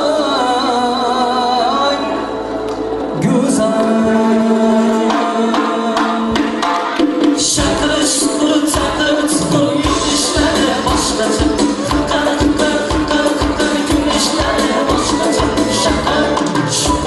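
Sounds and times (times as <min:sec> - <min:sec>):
live band music: 0:00.0 - 0:17.0
man singing: 0:00.0 - 0:17.0.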